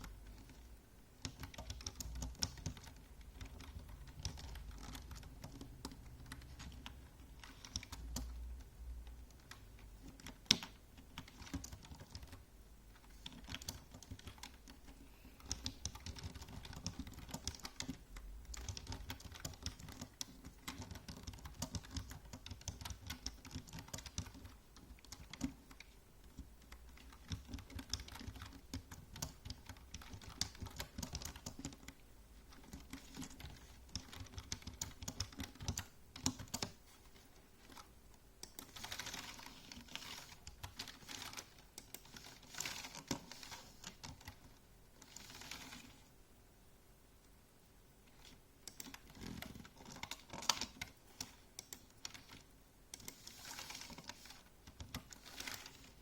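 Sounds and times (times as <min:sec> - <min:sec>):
typing on computer keyboard: 0:00.0 - 0:36.9, 0:37.6 - 0:46.0, 0:48.1 - 0:56.0.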